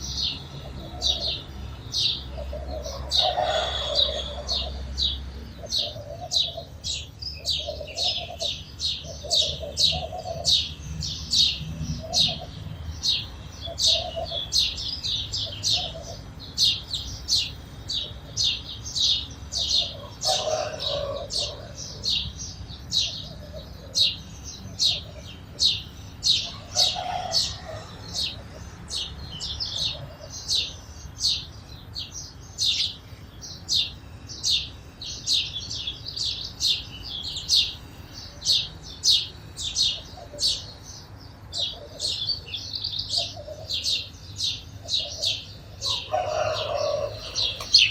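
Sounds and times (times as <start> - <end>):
sparrows chirping: 0.0 - 47.9.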